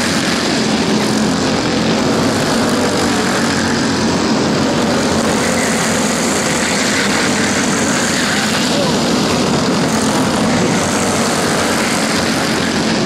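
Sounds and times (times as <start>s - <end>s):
go-kart engines racing: 0.0s - 13.0s.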